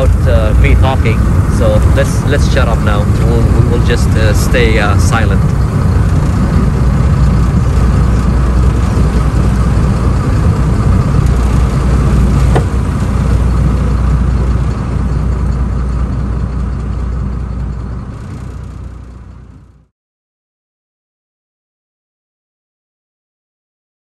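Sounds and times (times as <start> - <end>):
boat engine rumbling: 0.0 - 19.9.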